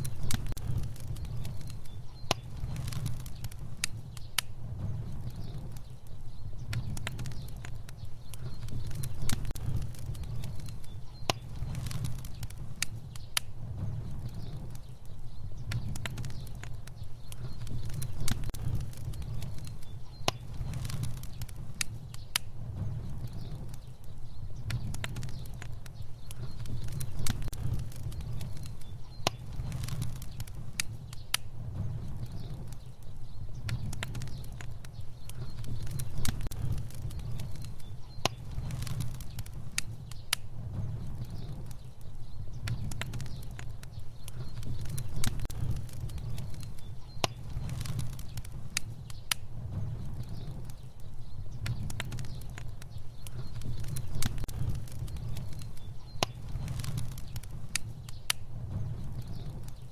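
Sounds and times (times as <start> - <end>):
fire crackling and popping: 0.0 - 59.9
flames rumbling: 0.0 - 59.9.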